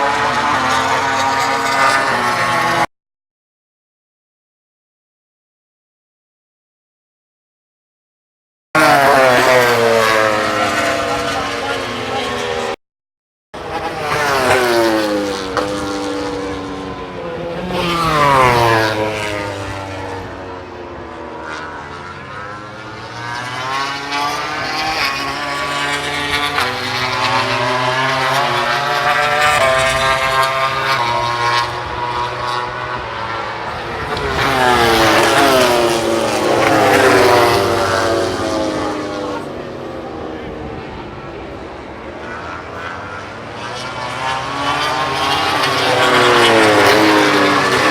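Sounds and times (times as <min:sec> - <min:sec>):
racing motorcycles passing at speed: 0:00.0 - 0:02.9, 0:08.8 - 0:12.8, 0:13.6 - 0:47.9.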